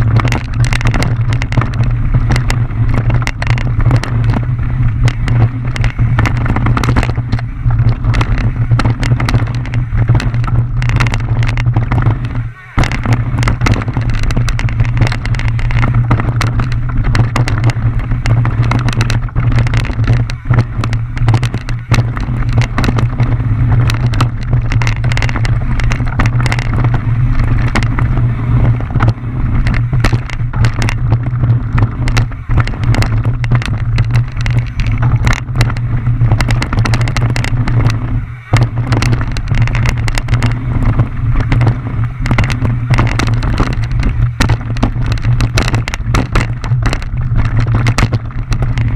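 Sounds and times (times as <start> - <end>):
bike rattling and knocking: 0.0 - 48.9
wind and tyres rumbling: 0.0 - 48.9.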